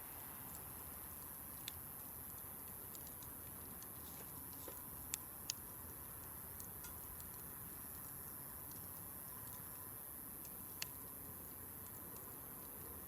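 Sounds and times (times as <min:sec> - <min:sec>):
faint steady hiss: 0:00.0 - 0:13.0
campfire crackling and popping: 0:00.3 - 0:13.0.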